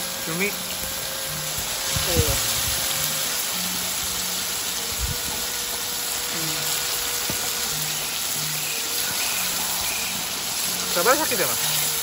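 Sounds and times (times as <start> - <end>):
squid sizzling in a wok: 0.0 - 12.0.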